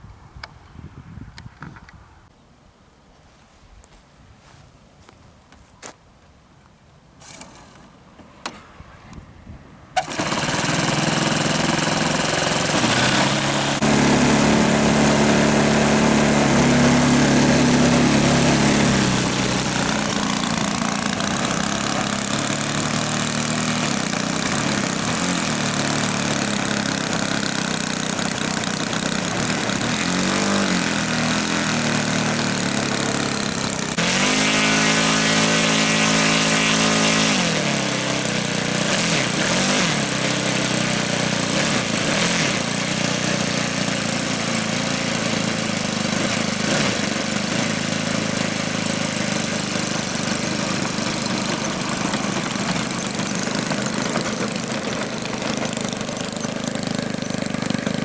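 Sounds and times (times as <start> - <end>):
small engine running: 10.0 - 58.0.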